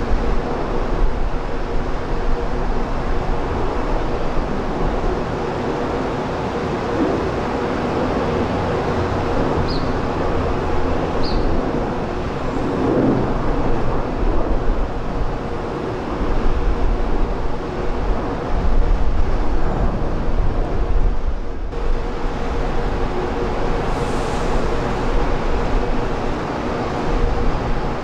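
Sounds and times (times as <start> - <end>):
jet engine rush: 0.0 - 28.0
wind buffeting microphone: 0.0 - 28.0.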